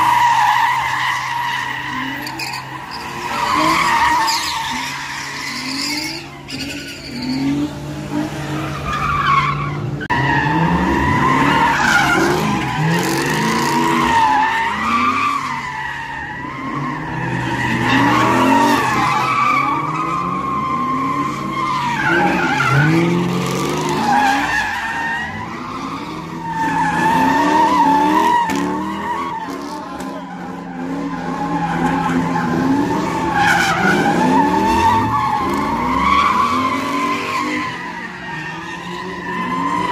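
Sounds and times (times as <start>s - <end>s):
tires squealing: 0.0s - 39.9s.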